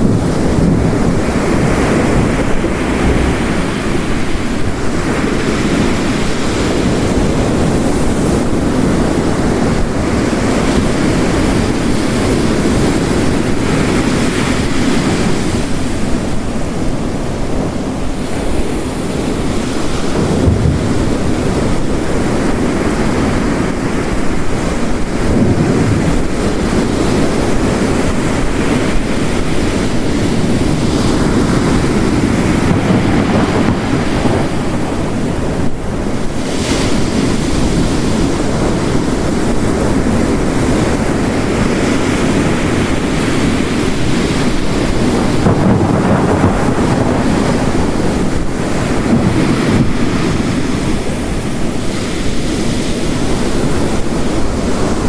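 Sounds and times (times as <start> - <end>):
heavy rain: 0.0 - 55.0
ocean waves crashing: 0.0 - 55.0.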